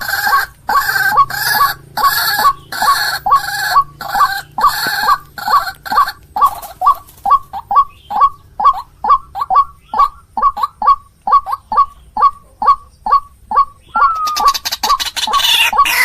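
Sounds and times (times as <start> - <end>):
waterhen calling: 0.0 - 16.0.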